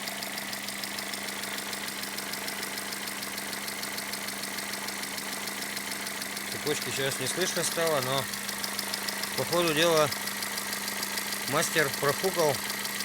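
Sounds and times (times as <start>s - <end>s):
car engine idling with ticking: 0.0s - 13.0s.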